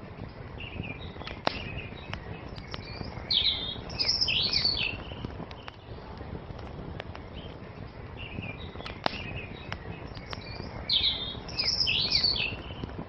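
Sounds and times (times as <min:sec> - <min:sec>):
songbird singing: 0:00.0 - 0:13.0
wood fire crackling: 0:00.0 - 0:13.0.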